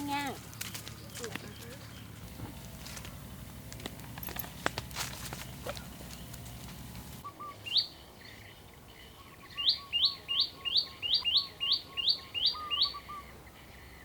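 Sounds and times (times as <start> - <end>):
bird chirping: 0.2 - 14.0.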